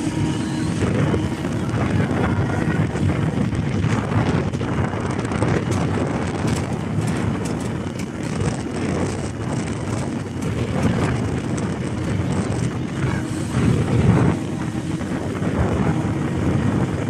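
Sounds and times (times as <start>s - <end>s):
speedboat engine and rushing water: 0.0s - 17.0s
wind buffeting microphone: 0.0s - 17.0s.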